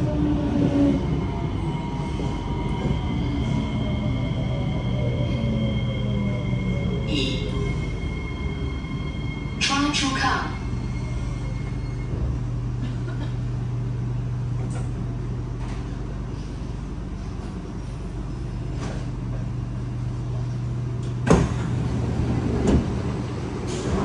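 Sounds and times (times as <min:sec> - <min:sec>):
metro train interior hum: 0:00.0 - 0:24.0.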